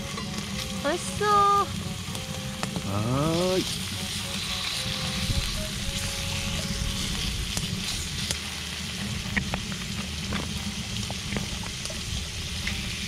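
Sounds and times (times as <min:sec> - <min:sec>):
beef sizzling in a skillet: 0:00.0 - 0:13.0.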